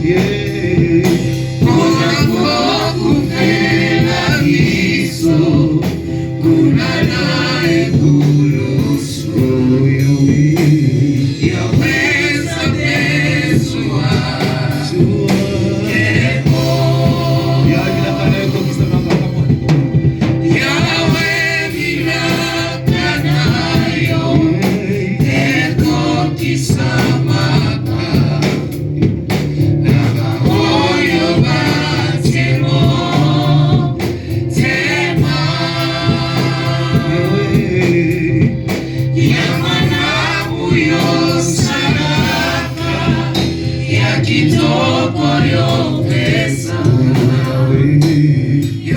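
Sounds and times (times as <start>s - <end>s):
church choir singing: 0.0s - 48.9s
low steady accompaniment: 0.0s - 48.9s.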